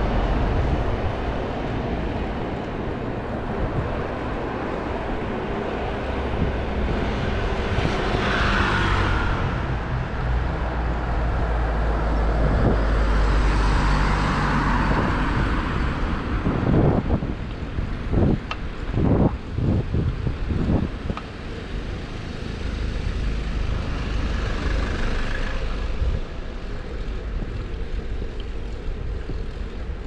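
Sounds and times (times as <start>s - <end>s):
low engine hum: 0.0s - 30.0s
motor vehicles passing: 0.0s - 30.0s.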